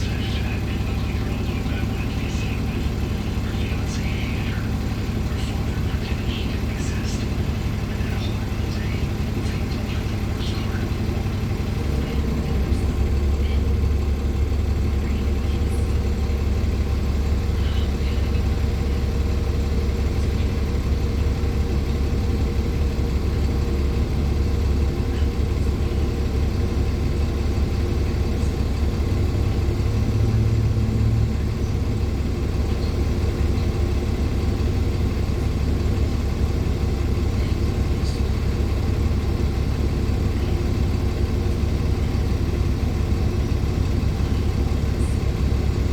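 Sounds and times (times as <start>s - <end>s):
bus interior engine drone: 0.0s - 45.9s.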